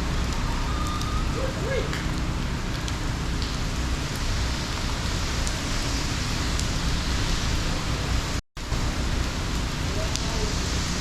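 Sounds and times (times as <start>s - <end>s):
hurricane wind and rain: 0.0s - 11.0s.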